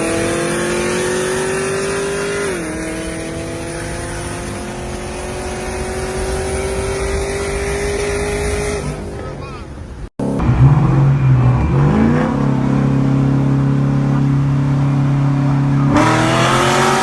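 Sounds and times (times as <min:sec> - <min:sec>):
car engine accelerating: 0:00.0 - 0:09.4, 0:10.2 - 0:17.0.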